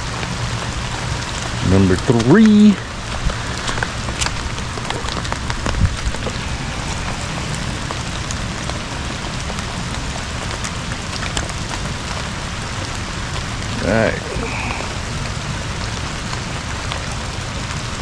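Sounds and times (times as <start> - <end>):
hard rain falling: 0.0 - 18.0.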